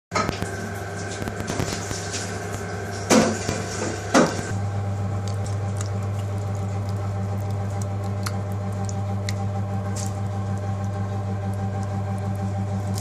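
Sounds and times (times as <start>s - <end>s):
steady hum: 0.1s - 13.0s
wet squelching of marinade: 1.0s - 13.0s.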